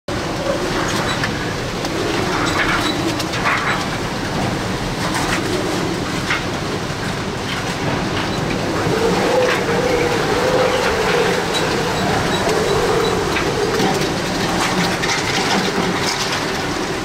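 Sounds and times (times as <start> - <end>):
strong wind roaring: 0.1 - 17.0.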